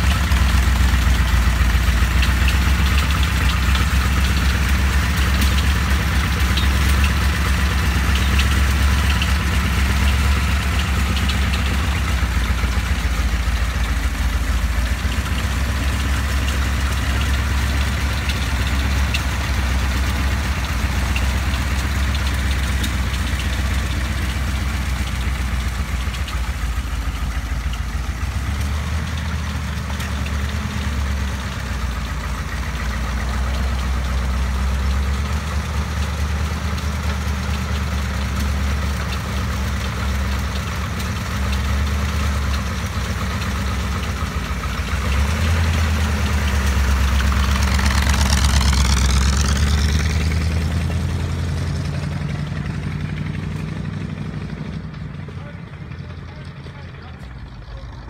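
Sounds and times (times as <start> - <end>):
car engine deep rumble: 0.0 - 58.0.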